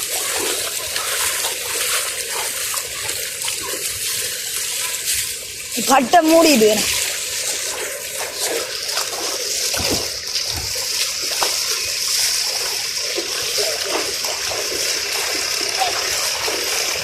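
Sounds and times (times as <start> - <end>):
floodwater rushing and splashing: 0.0 - 17.0.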